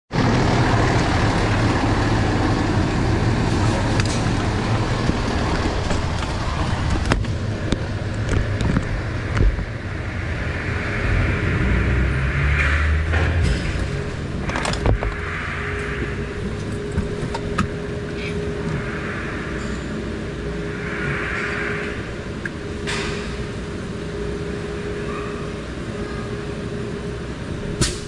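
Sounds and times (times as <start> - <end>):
diesel engine droning: 0.1 - 28.0.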